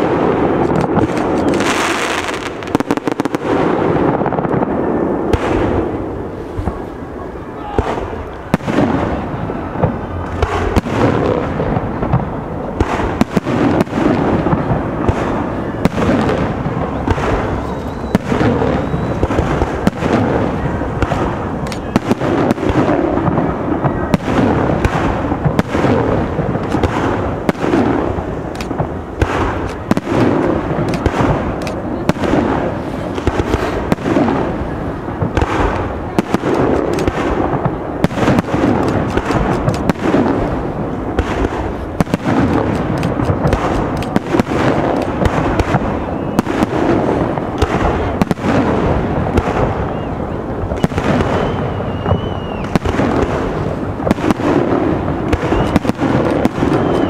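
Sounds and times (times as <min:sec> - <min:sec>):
firework shells bursting: 0:00.0 - 0:04.7, 0:09.8 - 0:57.0
continuous rumble: 0:00.0 - 0:57.0.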